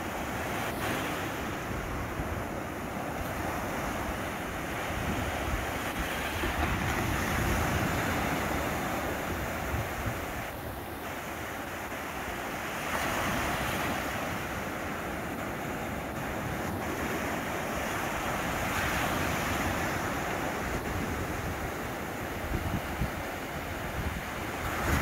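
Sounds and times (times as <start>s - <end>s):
small waves breaking on shore: 0.0s - 25.0s.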